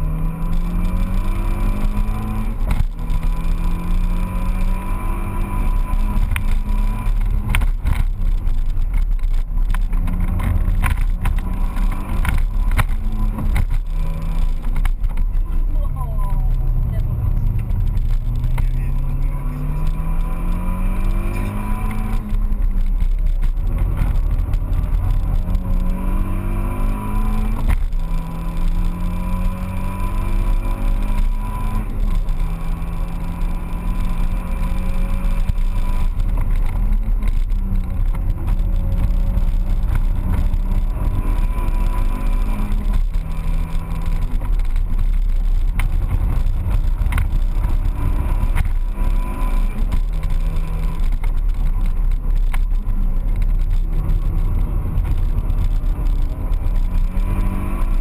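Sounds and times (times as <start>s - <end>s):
car engine revving: 0.0s - 58.0s
road and wind rumble: 0.0s - 58.0s.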